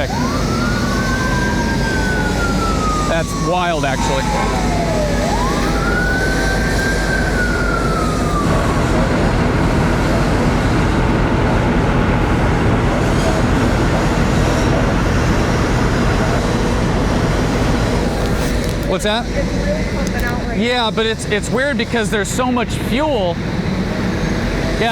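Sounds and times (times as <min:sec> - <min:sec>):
emergency siren: 0:00.0 - 0:24.9
fire engines droning: 0:00.0 - 0:24.9.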